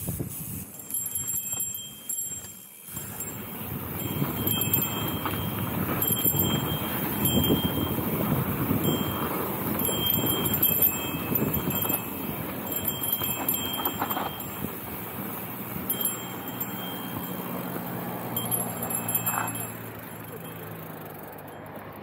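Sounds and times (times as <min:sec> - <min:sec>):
tyre and wind noise: 0:00.0 - 0:21.1
thin high ringing tone: 0:00.6 - 0:22.0.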